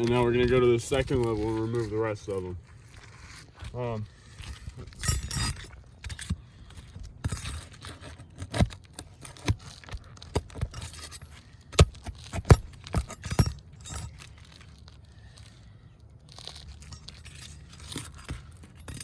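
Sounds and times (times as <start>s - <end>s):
metal tool scraping: 0.0s - 15.6s, 16.3s - 19.0s.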